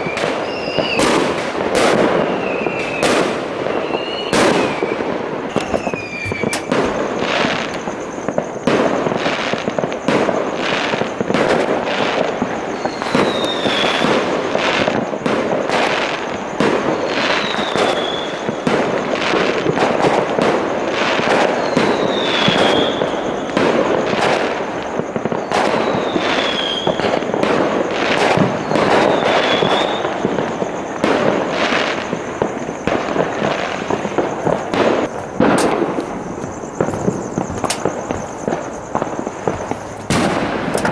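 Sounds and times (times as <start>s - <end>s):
falling firework whistle: 0.0s - 40.9s
fireworks bangs and crackle: 0.0s - 40.9s.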